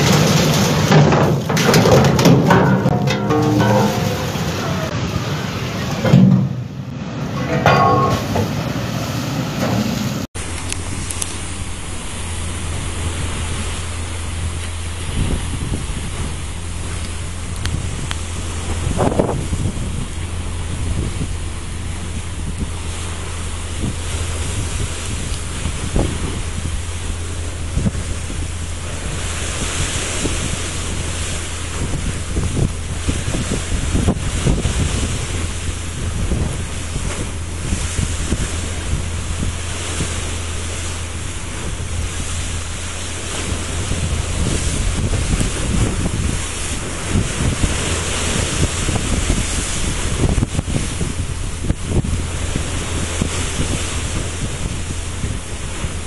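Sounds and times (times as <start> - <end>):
sea waves washing: 0.0 - 56.0
wind buffeting microphone: 0.0 - 56.0.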